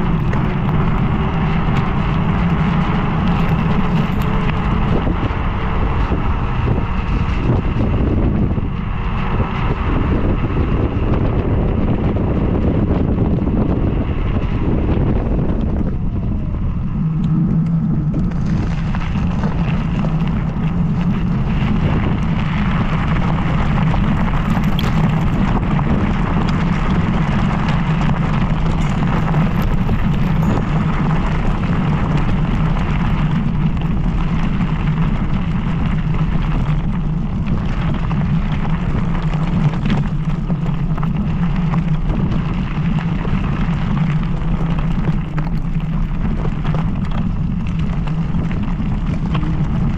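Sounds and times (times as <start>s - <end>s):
constant low hum: 0.0s - 49.9s
wind rush on microphone: 0.0s - 49.9s.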